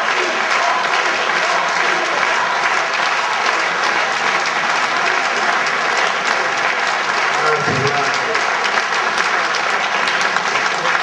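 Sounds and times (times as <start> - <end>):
large crowd applauding: 0.0 - 11.0.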